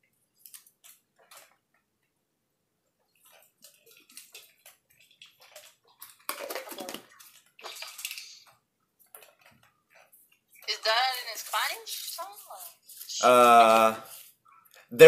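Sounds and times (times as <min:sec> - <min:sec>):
clothing rustling: 0:02.8 - 0:14.9.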